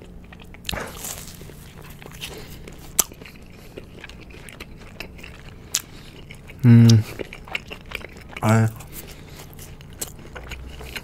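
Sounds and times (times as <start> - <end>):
wet chewing mouth sounds: 0.0 - 11.0.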